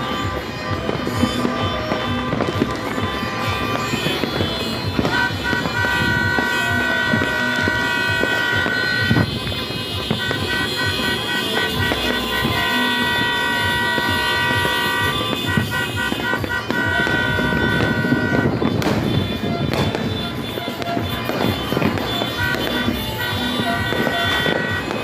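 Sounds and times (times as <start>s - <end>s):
firecrackers crackling: 0.0s - 25.0s
horns blowing long blasts: 0.0s - 25.0s.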